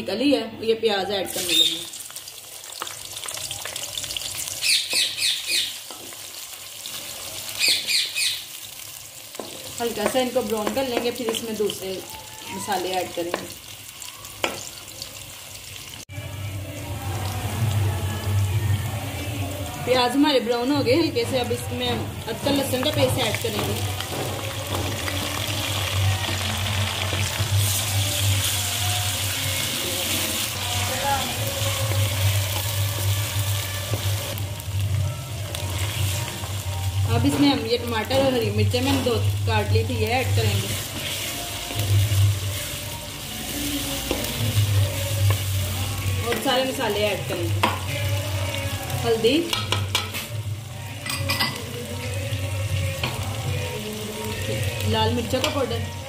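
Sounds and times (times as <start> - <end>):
onions sizzling in hot fat: 1.2 - 56.0.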